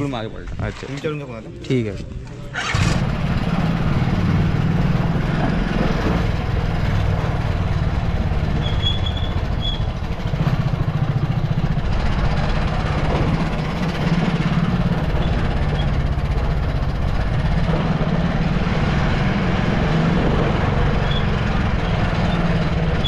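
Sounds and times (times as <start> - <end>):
motorcycle engine throbbing: 2.6 - 23.0.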